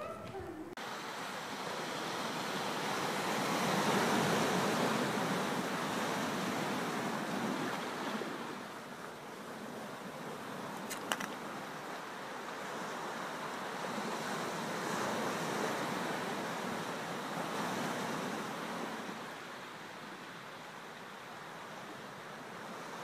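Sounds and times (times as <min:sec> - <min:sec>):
ocean waves washing on shore: 0:00.8 - 0:23.0.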